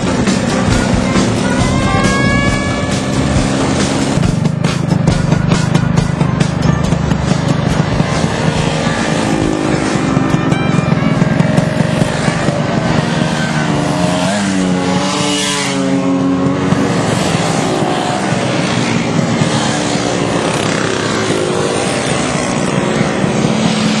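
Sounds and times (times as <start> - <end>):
scooters riding past: 0.0 - 24.0.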